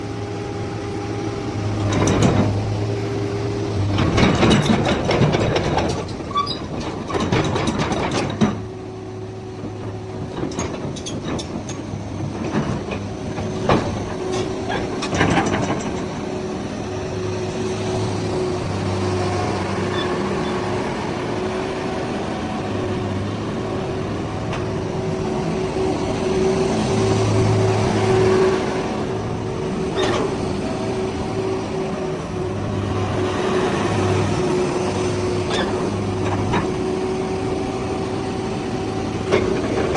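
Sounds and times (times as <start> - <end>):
engine whine: 0.0 - 39.9.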